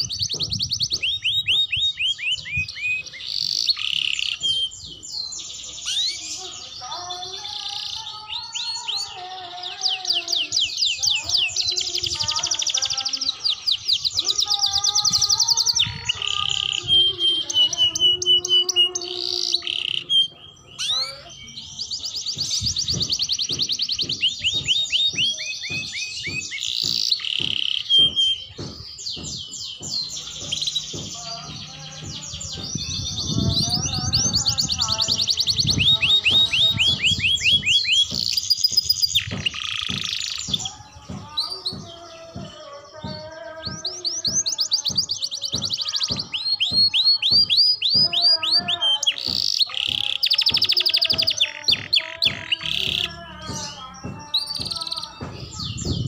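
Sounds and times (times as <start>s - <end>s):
canary trilling song: 0.0s - 56.0s.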